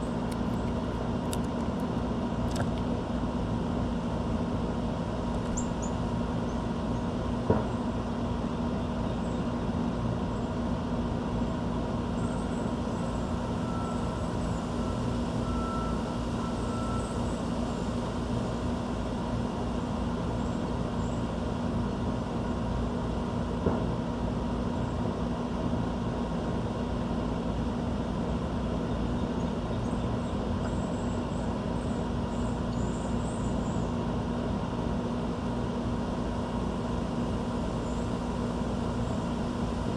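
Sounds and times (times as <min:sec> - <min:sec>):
urban background rumble: 0:00.0 - 0:39.9.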